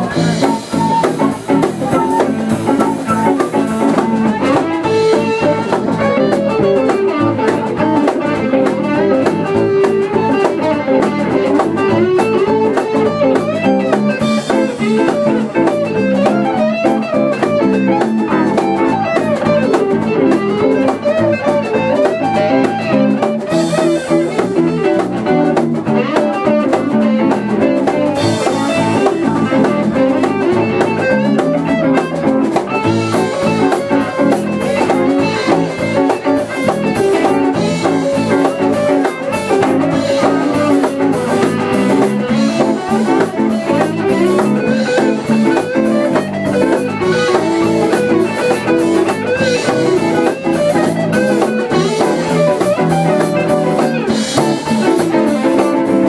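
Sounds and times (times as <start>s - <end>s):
bass guitar: 0.0s - 56.0s
drum kit with cymbals: 0.0s - 56.0s
electric guitars: 0.0s - 56.0s.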